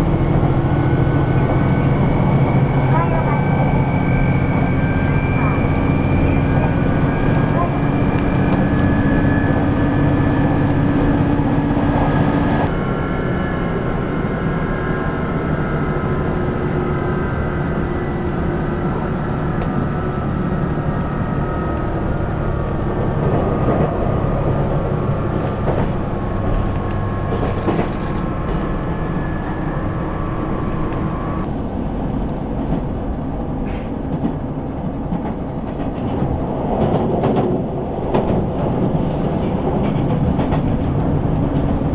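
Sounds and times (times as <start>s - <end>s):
rail rumble: 0.0s - 41.9s
train engine drone: 0.0s - 41.9s.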